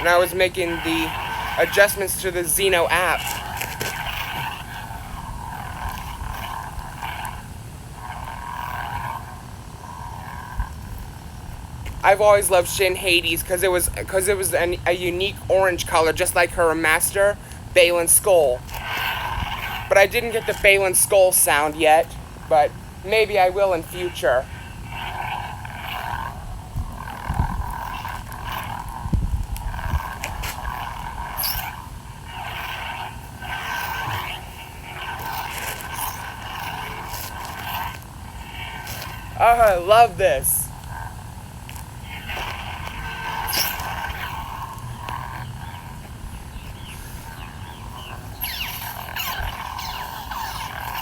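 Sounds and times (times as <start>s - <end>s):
lightsaber hum: 0.0s - 51.0s.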